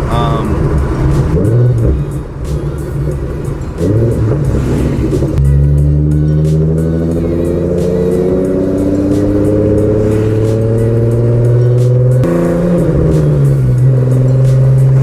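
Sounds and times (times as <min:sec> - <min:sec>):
car engine revving through gears: 0:00.0 - 0:15.0.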